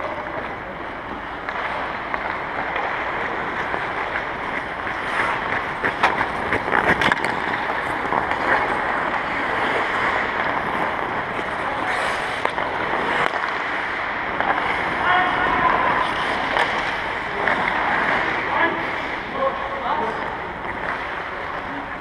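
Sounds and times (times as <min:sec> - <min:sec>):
hockey sticks and pucks clacking: 0:00.0 - 0:22.0
skates scraping on ice: 0:00.0 - 0:22.0.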